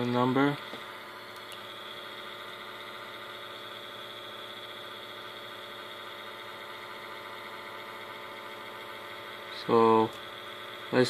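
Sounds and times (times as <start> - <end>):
laptop hum: 0.0 - 11.0.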